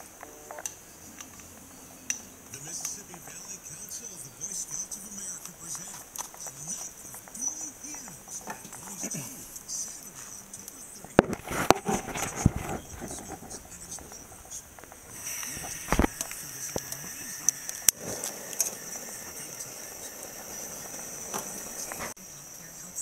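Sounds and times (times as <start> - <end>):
crickets chirping: 0.0 - 23.0
burner flame hissing: 0.7 - 23.0.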